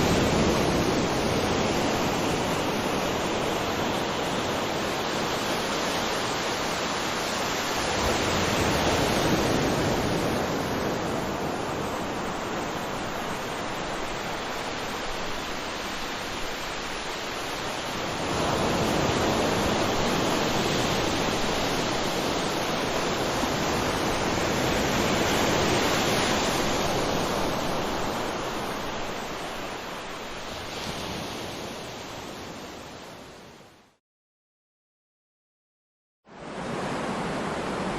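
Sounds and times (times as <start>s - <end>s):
waterfall rushing water: 0.0s - 30.8s, 36.4s - 37.9s.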